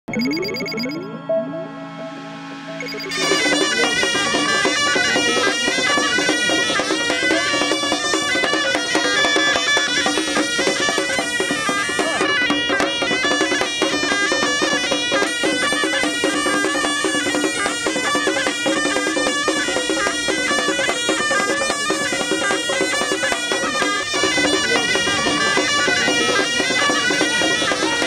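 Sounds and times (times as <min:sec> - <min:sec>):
reedy shawm melody: 0:00.1 - 0:28.0
drums beaten with sticks: 0:02.8 - 0:28.0.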